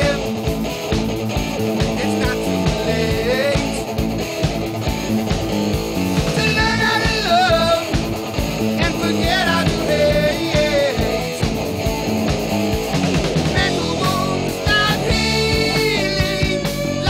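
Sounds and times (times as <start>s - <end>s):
rock song with guitar and singing: 0.0s - 17.0s.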